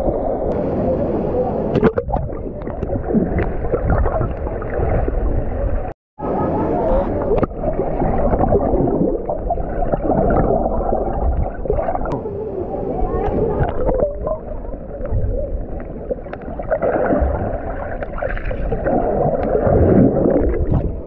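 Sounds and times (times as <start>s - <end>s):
underwater churning and gurgling: 0.0s - 21.0s.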